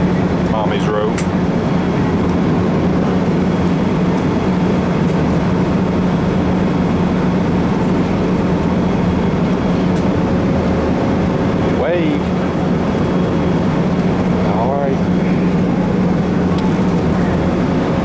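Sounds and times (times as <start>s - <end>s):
jet cabin engine and air rush: 0.0s - 18.0s
low steady hum: 0.0s - 18.0s.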